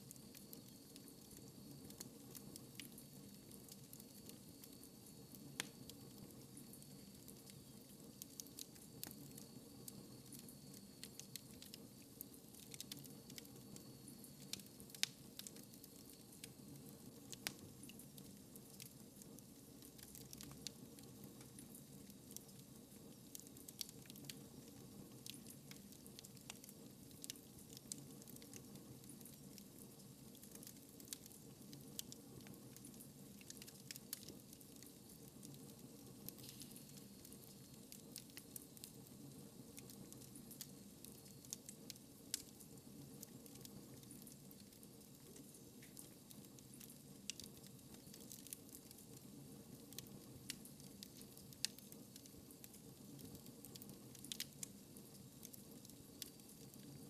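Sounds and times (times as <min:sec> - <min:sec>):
fire crackling in fireplace: 0:00.0 - 0:57.0
low steady background sound: 0:00.0 - 0:57.0.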